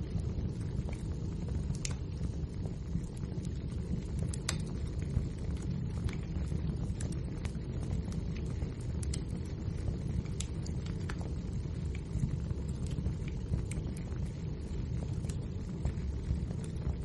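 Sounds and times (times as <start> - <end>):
fire flames burning: 0.0 - 17.0
logs crackling and popping: 0.0 - 17.0.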